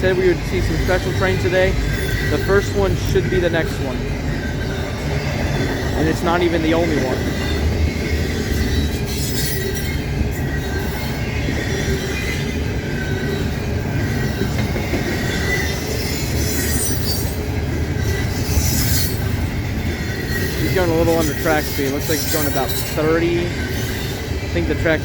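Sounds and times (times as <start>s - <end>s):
faint high wheel squeal: 0.0s - 25.0s
train wheels rumbling on rail: 0.0s - 25.0s.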